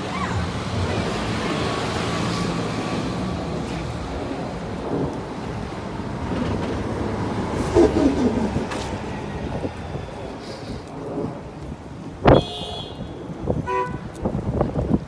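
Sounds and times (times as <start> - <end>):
rumble of passing vehicles: 0.0 - 15.0.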